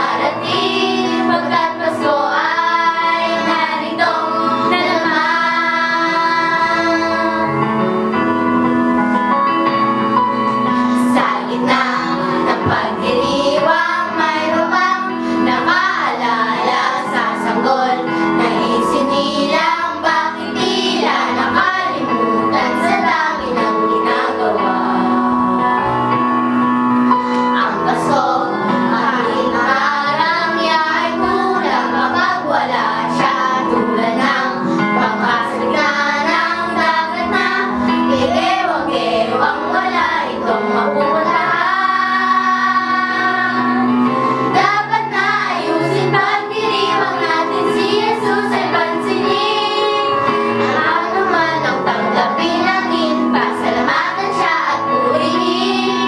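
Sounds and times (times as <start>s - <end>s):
children singing: 0.0s - 7.7s, 10.8s - 25.4s, 27.5s - 56.0s
backing music: 0.0s - 56.0s.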